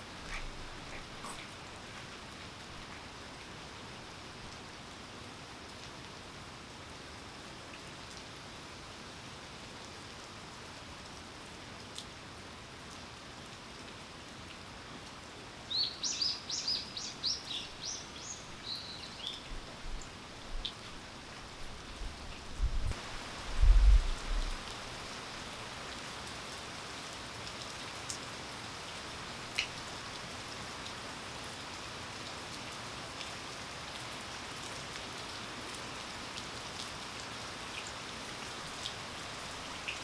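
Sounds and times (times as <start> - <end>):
steady rain hiss: 0.0 - 40.0.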